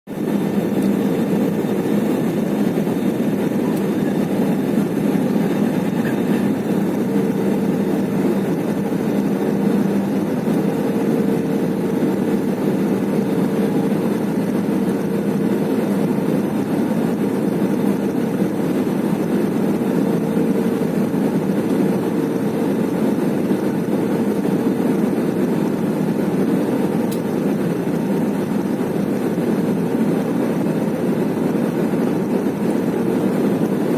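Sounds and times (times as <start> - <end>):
jet engines and airflow in cabin: 0.1 - 33.9.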